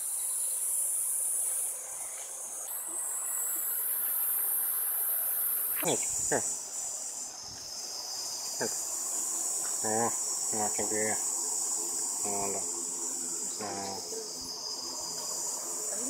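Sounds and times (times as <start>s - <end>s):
tropical insects chorus: 0.0s - 16.0s.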